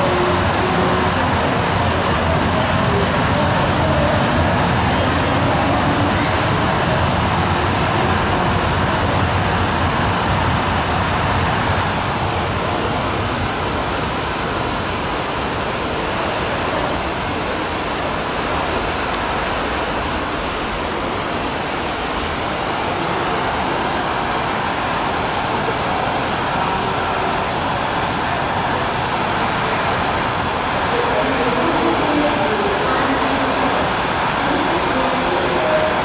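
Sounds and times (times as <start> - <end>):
distant crowd noise: 0.0 - 36.0
train rumble: 0.0 - 36.0.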